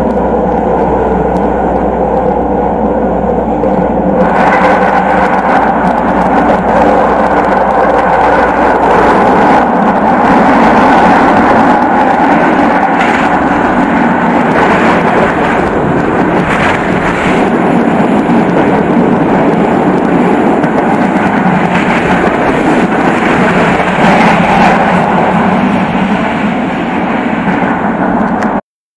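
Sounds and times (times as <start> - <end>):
sharp rail clacks: 0.0 - 28.6
steel wheels rolling on rails: 0.0 - 28.6.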